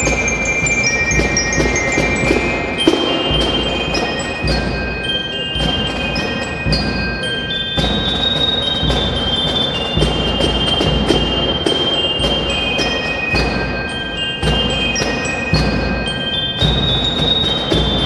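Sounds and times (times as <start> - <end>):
bell lyres melody: 0.0 - 18.0
snare and tenor drums: 0.0 - 18.0.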